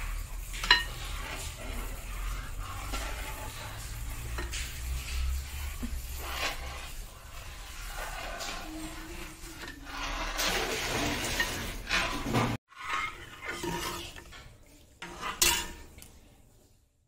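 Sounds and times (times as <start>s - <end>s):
metal ladle scraping a pot: 0.0s - 16.2s.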